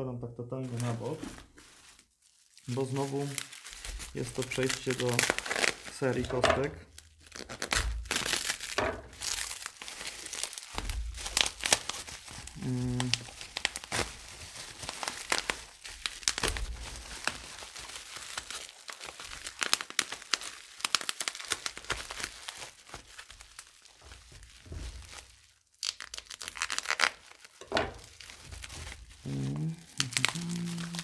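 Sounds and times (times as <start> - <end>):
bubble wrap crinkling: 0.6 - 31.0.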